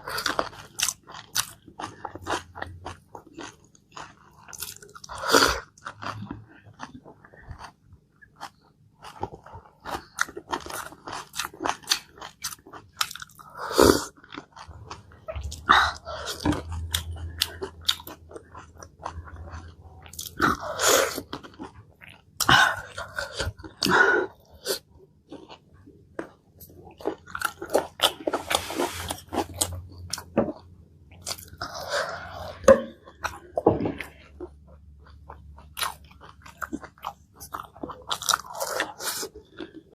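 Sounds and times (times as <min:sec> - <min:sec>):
food crunching: 0:00.0 - 0:40.0
person chewing food: 0:00.0 - 0:40.0.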